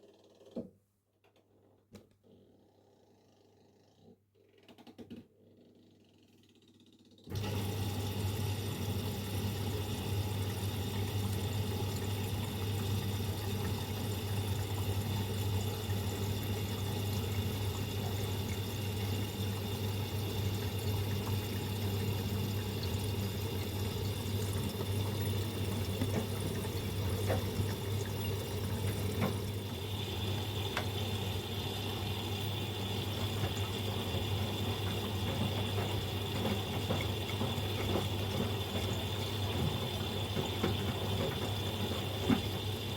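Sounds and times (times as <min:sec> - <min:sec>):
water rushing into washing machine: 0:07.2 - 0:42.9.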